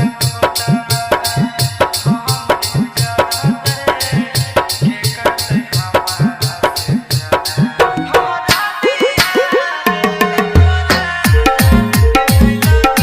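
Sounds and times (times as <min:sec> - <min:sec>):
fast drum beat: 0:00.0 - 0:13.0.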